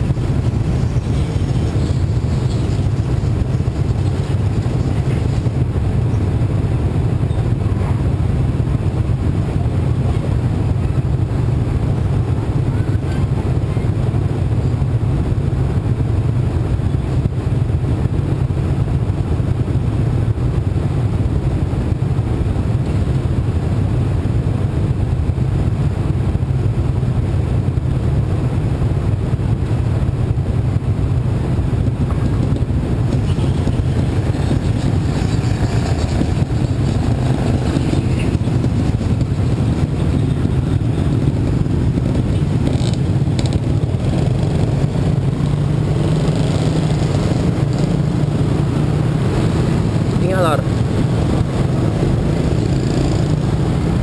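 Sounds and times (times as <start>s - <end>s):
motorcycle engine running at low revs: 0.0s - 54.0s
traffic rumble: 0.0s - 54.0s.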